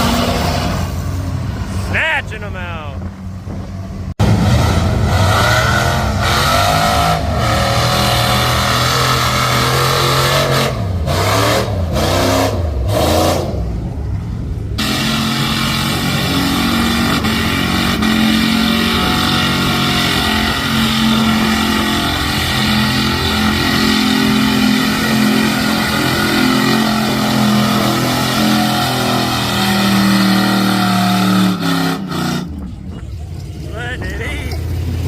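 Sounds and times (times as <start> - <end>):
truck engine revving hard: 0.0 - 14.0, 14.8 - 35.0.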